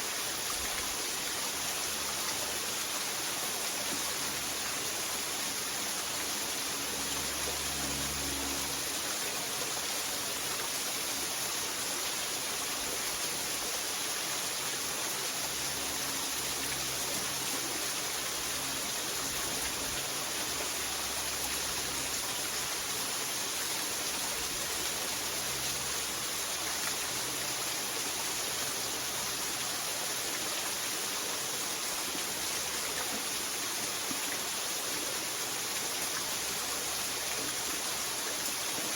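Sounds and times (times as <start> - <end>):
waterfall and stream rushing: 0.0 - 7.6, 8.7 - 38.9.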